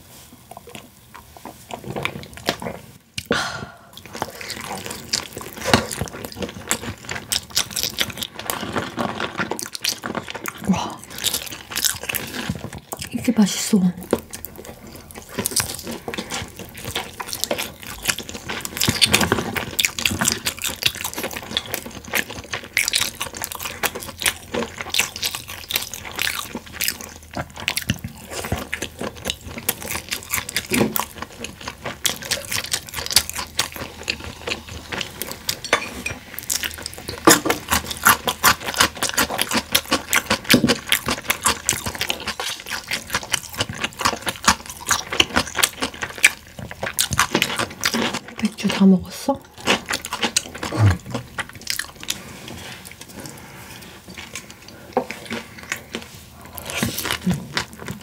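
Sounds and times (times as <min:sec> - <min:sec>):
people chewing with wet clicks: 0:00.4 - 0:58.0.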